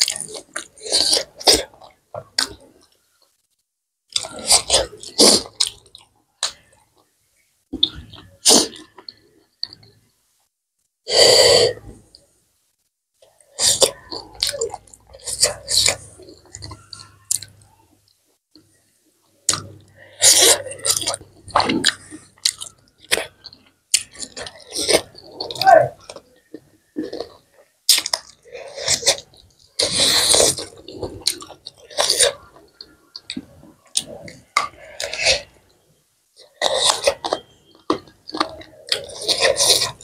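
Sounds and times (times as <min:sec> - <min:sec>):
wet chewing and mouth clicks: 0:00.0 - 0:03.0, 0:04.1 - 0:07.1, 0:07.8 - 0:10.0, 0:13.2 - 0:18.7, 0:19.4 - 0:35.6, 0:36.4 - 0:40.0.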